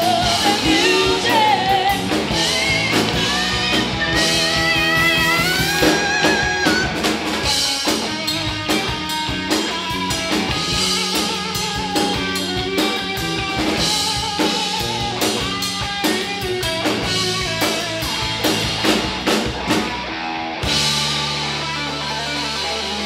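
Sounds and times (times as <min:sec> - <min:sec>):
drum kit beating: 0:00.0 - 0:23.0
live rock band playing: 0:00.0 - 0:23.0.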